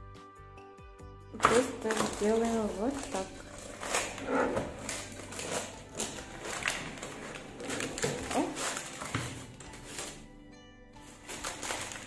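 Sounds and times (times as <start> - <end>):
parchment and cloth rustling: 1.4 - 10.3, 11.0 - 12.0.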